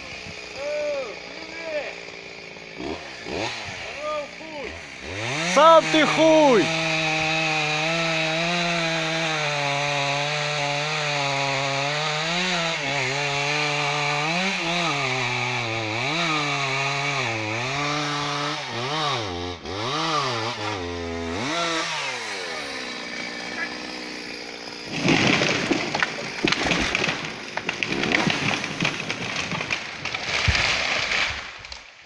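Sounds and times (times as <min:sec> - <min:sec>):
chainsaw cutting tree: 0:00.0 - 0:32.0.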